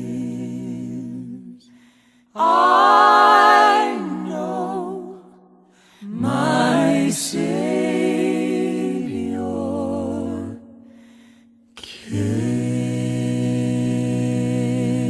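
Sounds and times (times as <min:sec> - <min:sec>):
voices singing a hymn in harmony: 0:00.0 - 0:11.2, 0:11.8 - 0:15.0.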